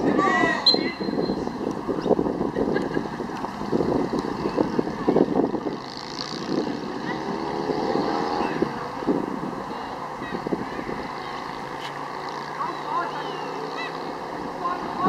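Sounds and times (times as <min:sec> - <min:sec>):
wind rumbling on microphone: 0:00.0 - 0:12.5.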